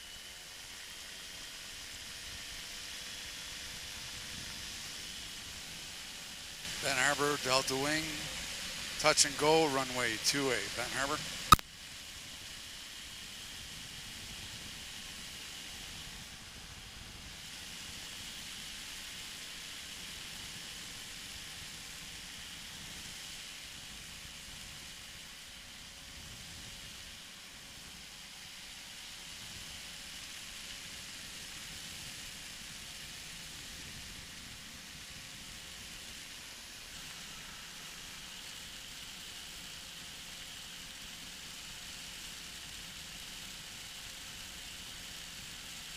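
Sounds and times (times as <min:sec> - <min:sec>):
faint engine drone: 0:00.0 - 0:45.9.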